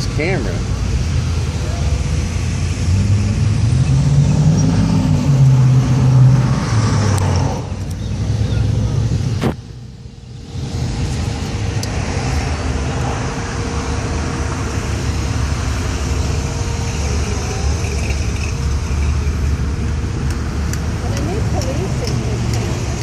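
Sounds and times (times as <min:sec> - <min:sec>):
car engines in slow traffic: 0:00.0 - 0:23.0.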